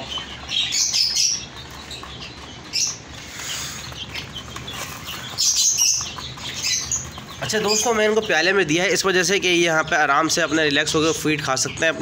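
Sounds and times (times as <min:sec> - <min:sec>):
chicks and quail peeping: 0:00.0 - 0:12.0.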